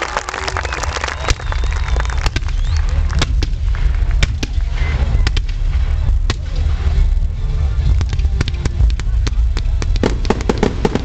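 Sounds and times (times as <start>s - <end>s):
fireworks bangs and cracks: 0.0s - 11.0s
low rumble: 0.0s - 11.0s.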